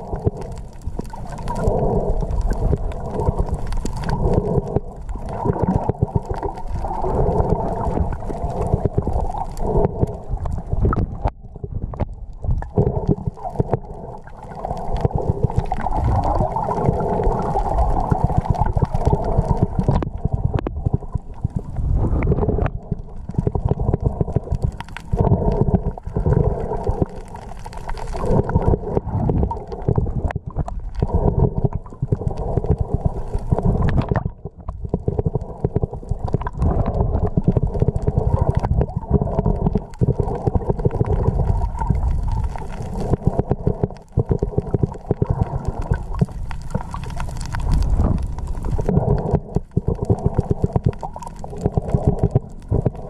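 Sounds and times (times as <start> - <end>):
muffled underwater gurgling: 0.0 - 53.0.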